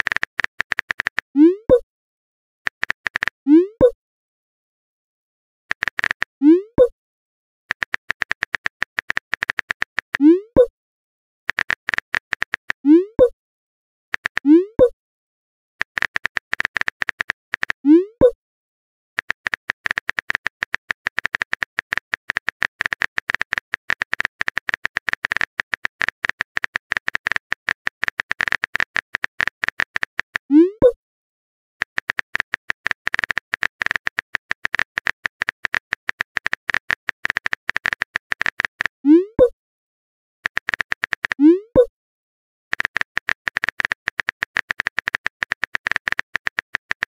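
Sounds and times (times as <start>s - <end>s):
phone keyboard typing clicks: 0.0s - 1.8s, 2.7s - 4.0s, 5.7s - 6.9s, 7.7s - 10.7s, 11.5s - 13.3s, 14.1s - 15.0s, 15.8s - 18.4s, 19.2s - 31.0s, 31.8s - 39.5s, 40.4s - 41.9s, 42.7s - 47.0s.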